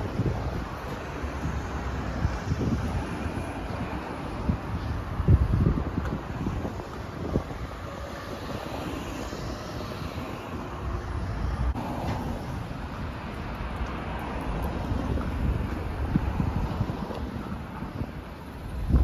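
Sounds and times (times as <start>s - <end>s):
road traffic rumble: 0.0s - 19.0s
wind on microphone: 0.0s - 19.0s.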